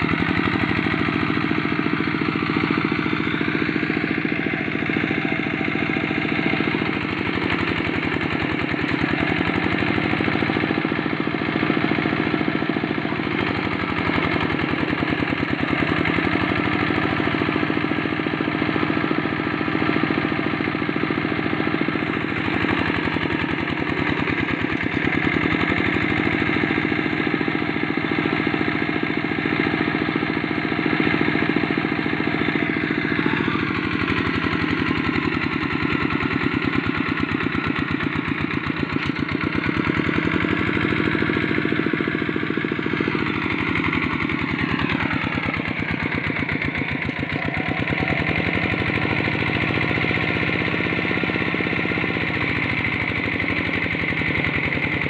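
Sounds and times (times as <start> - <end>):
diesel engine labouring: 0.0 - 55.0.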